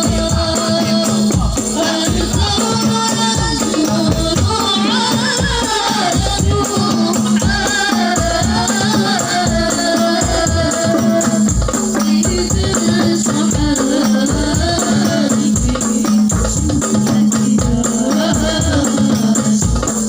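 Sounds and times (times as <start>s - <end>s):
frame drums beating: 0.0s - 20.0s.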